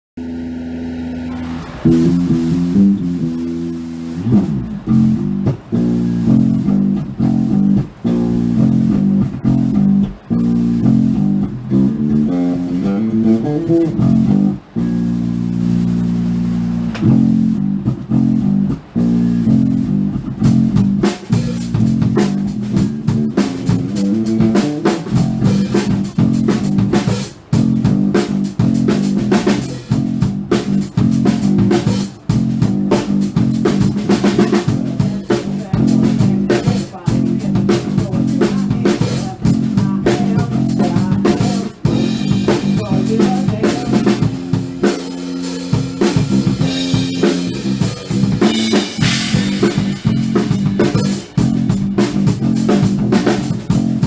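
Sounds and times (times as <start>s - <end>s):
bass and electric guitar riff: 0.2s - 54.0s
drum kit steady beat: 1.8s - 54.0s.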